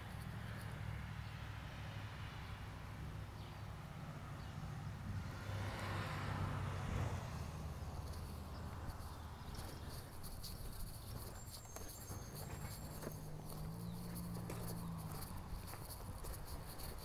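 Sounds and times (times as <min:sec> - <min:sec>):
vehicle passing: 0:00.0 - 0:17.0.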